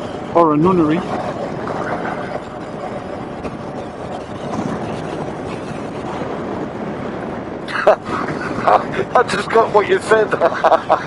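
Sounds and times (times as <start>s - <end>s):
wind rush: 0.0s - 11.0s.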